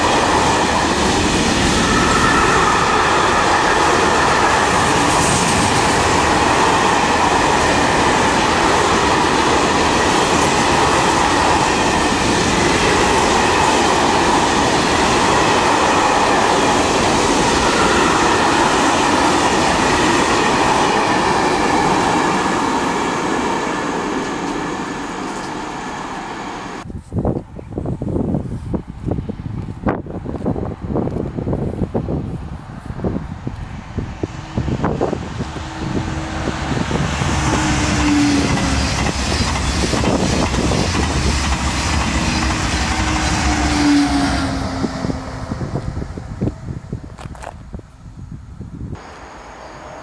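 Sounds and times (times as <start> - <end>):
wind gusts on microphone: 0.0 - 24.7, 26.7 - 50.0
train rumbling on rails: 0.0 - 50.0.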